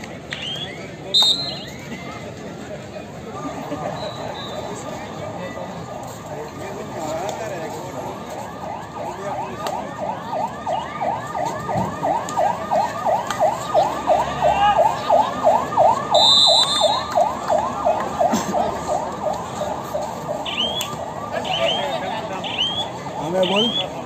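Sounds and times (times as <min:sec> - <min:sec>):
crowd noise: 0:00.0 - 0:24.0.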